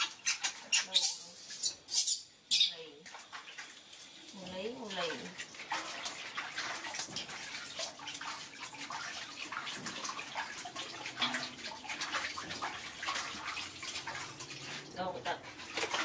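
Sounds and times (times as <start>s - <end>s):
water splashing in steel basins: 0.0s - 16.0s.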